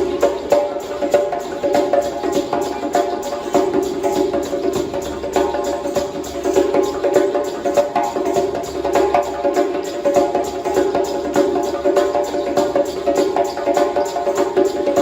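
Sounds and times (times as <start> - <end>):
drums in a fast rhythm: 0.0 - 15.0.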